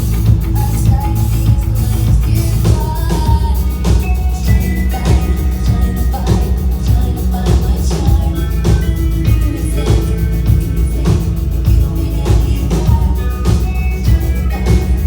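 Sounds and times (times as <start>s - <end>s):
live pop-rock band music: 0.0s - 15.0s.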